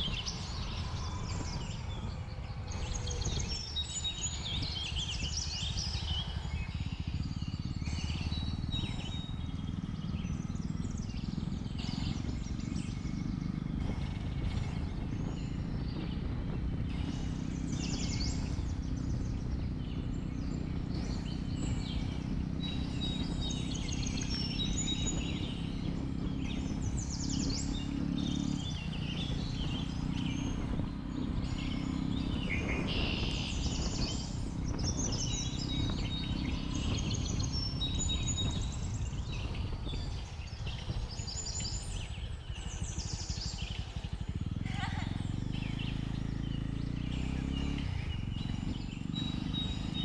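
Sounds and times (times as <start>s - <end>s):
birds chirping and calling: 0.0s - 50.0s
motorcycle engine running: 0.0s - 50.0s.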